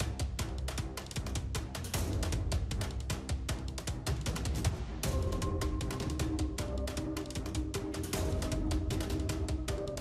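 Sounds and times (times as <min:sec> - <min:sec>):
fast driving drum beat: 0:00.0 - 0:10.0.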